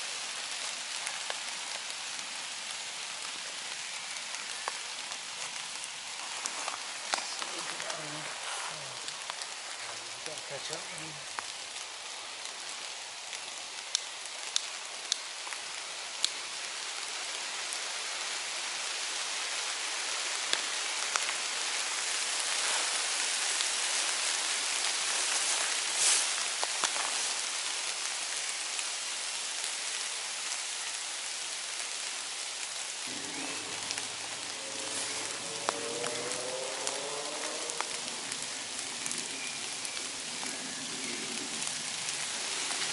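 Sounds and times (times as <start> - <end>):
heavy rain in woodland: 0.0 - 42.9
raindrops tapping close by: 0.0 - 42.9.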